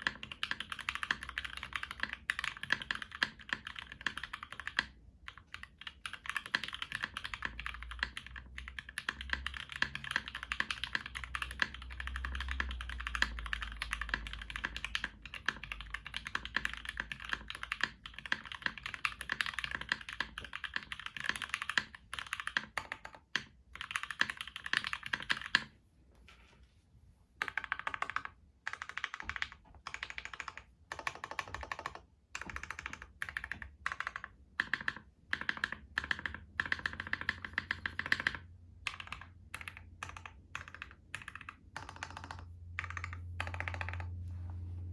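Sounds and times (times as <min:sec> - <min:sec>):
mechanical keyboard typing: 0:00.0 - 0:25.7, 0:27.4 - 0:44.2.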